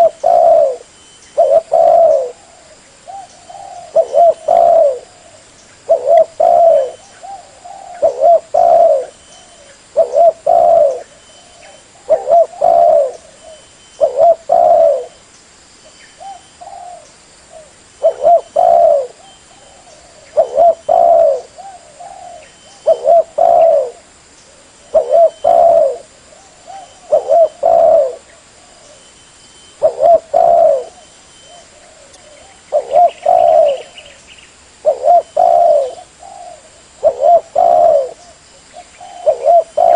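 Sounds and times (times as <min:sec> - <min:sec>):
dove cooing: 0:00.0 - 0:15.2, 0:16.2 - 0:29.1, 0:29.7 - 0:34.2, 0:34.8 - 0:39.9.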